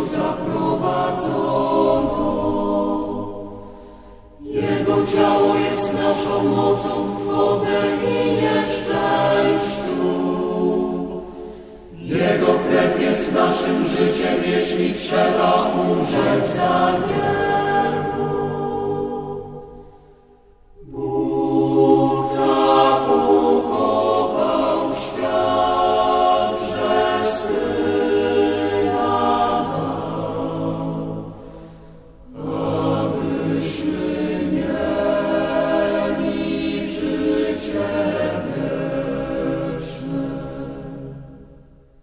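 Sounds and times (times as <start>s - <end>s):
choir singing a sacred chant: 0.0s - 42.0s.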